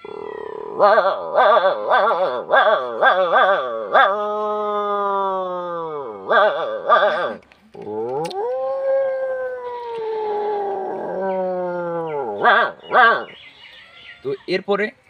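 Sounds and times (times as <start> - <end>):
man imitating dog howling: 0.0 - 13.3.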